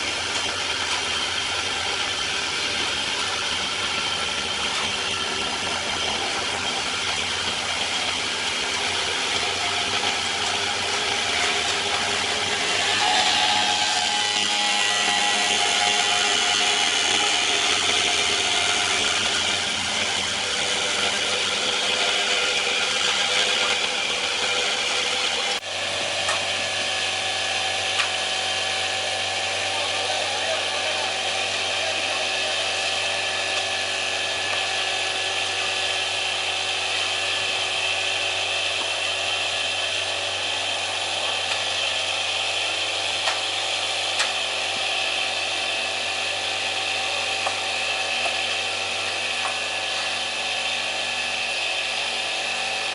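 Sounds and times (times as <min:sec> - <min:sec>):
power tool running: 0:00.0 - 0:52.9.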